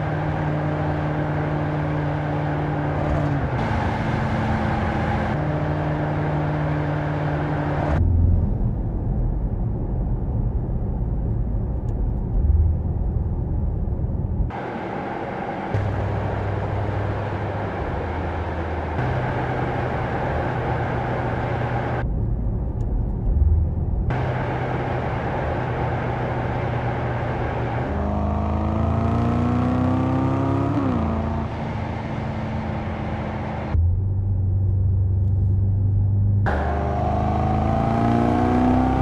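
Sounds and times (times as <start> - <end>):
car engine and exhaust driving: 0.0 - 39.0.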